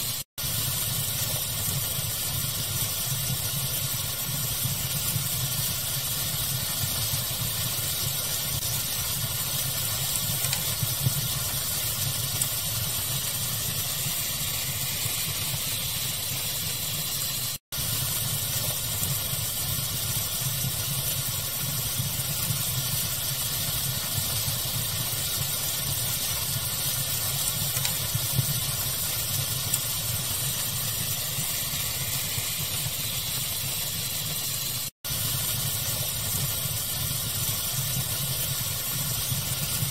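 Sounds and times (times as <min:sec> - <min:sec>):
faint fire crackles: 0:00.0 - 0:39.9
fire hissing and rumbling: 0:00.0 - 0:39.9.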